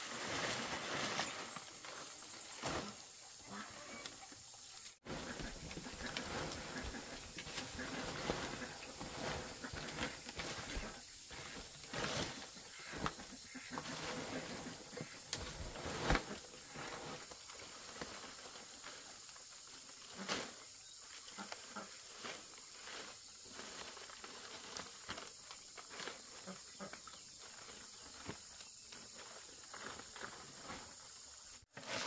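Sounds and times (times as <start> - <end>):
dry thatch rustling and crackling: 0.0 - 32.0.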